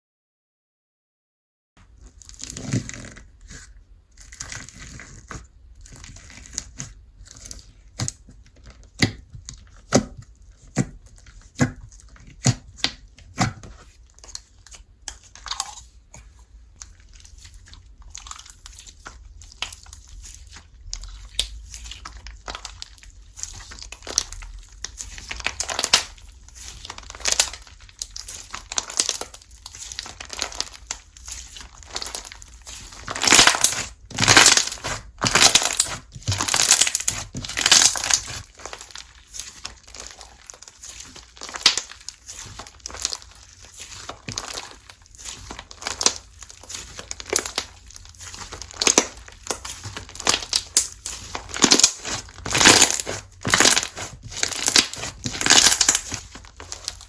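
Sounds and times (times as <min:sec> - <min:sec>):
slime crinkling and tearing: 0:01.8 - 0:57.0.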